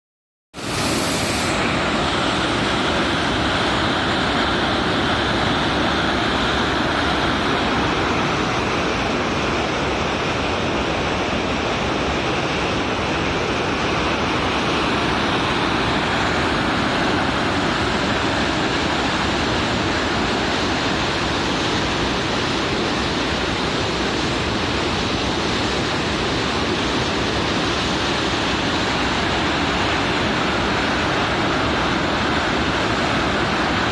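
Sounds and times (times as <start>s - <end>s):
waterfall rushing: 0.6s - 33.9s.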